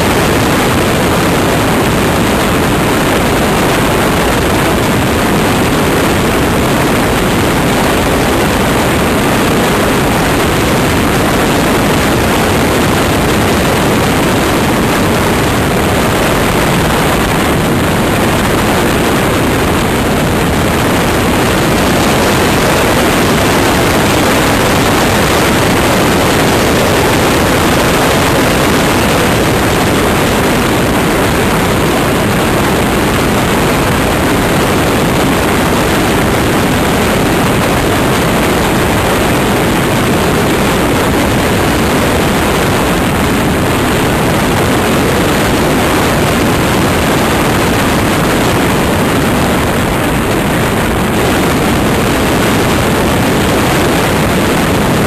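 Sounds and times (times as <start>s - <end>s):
wind rushing over camera: 0.0s - 55.0s.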